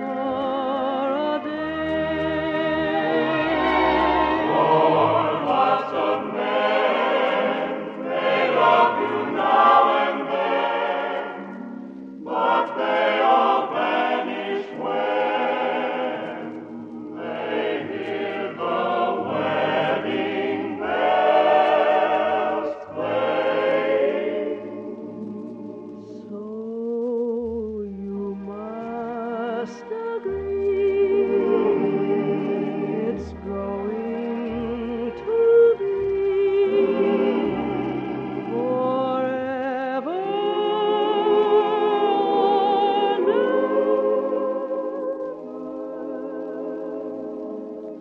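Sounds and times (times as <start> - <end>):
choir singing a slow ballad: 0.0 - 48.0
orchestra: 0.0 - 48.0.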